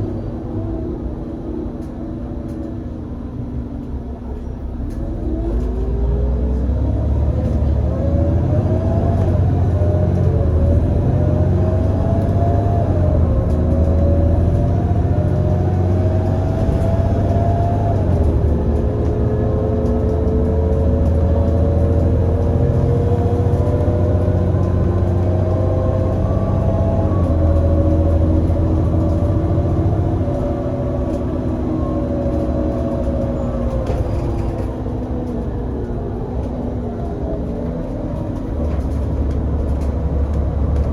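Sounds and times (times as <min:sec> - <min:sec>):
bus engine accelerating with whine: 0:00.0 - 0:40.9.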